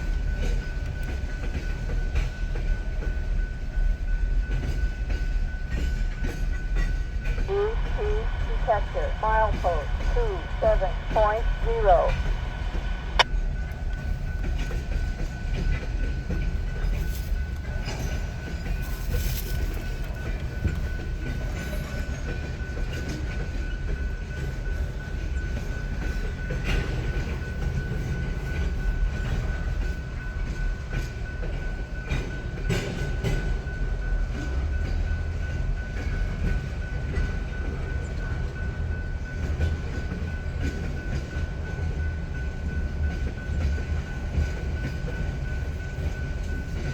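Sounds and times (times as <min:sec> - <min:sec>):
freight train rumbling: 0:00.0 - 0:46.9.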